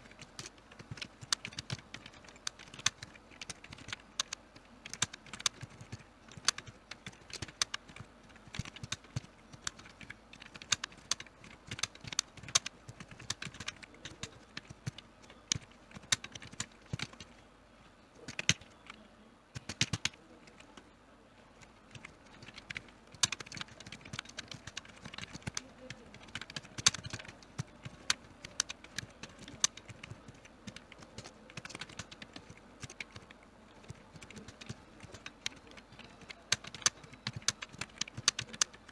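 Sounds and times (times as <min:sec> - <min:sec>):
keyboard typing: 0:00.0 - 0:17.4, 0:18.2 - 0:20.9, 0:21.5 - 0:38.9.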